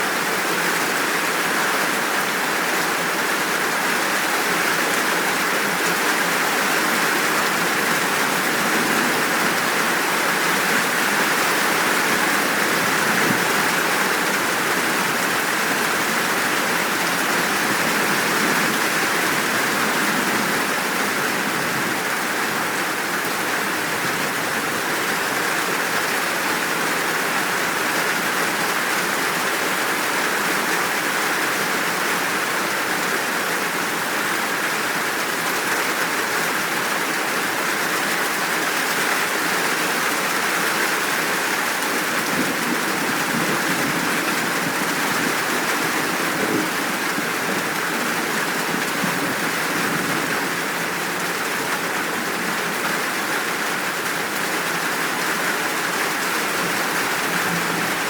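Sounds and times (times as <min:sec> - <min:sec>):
steady downpour of rain: 0:00.0 - 0:58.0.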